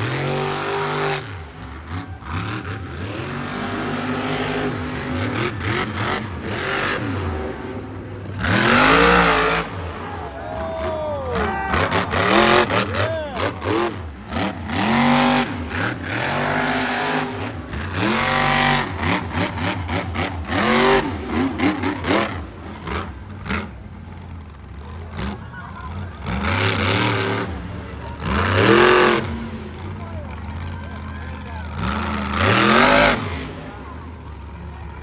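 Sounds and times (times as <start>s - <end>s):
monster truck engine revving: 0.0s - 35.0s.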